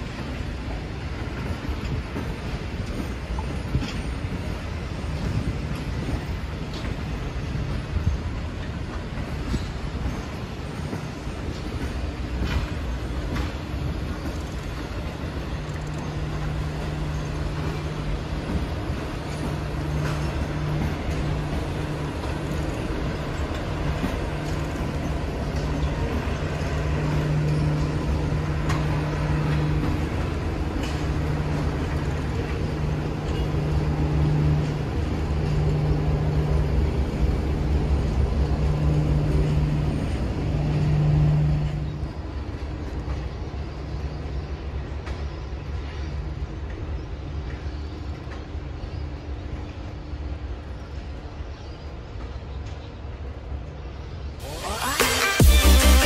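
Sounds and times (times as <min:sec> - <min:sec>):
diesel locomotive engine hum: 0:00.0 - 0:56.0
passing train: 0:00.0 - 0:56.0.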